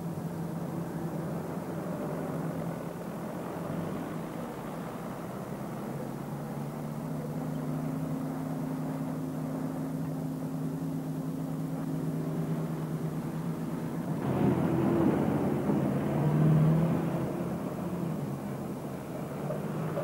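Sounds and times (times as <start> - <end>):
jeep engine running: 0.0 - 20.0.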